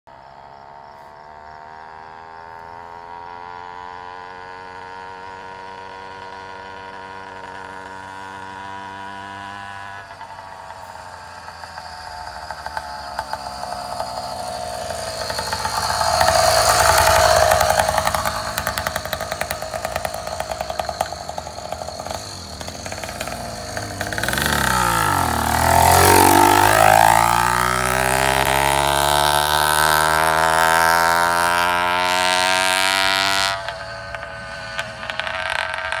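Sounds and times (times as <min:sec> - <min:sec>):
motorized bicycle engine passing: 0:00.1 - 0:36.0.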